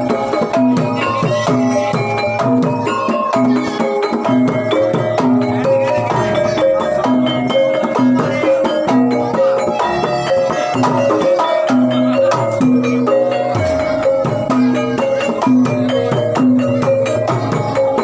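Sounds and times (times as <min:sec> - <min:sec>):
hand drum beats: 0:00.0 - 0:18.0
metallophones ringing melody: 0:00.0 - 0:18.0.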